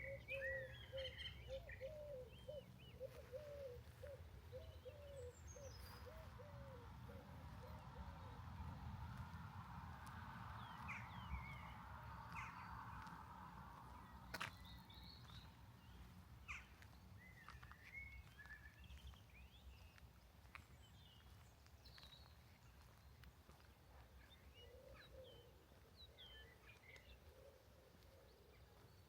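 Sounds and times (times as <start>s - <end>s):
small birds chirping: 0.0s - 8.5s, 10.0s - 29.0s.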